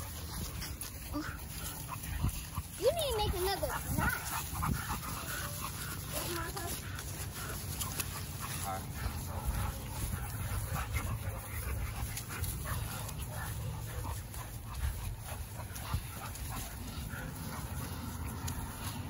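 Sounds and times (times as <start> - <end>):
dogs panting: 0.0 - 19.0.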